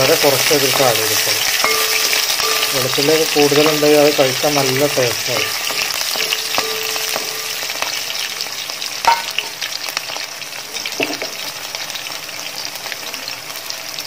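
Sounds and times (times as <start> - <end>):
garlic and chillies sizzling in oil: 0.0 - 14.0.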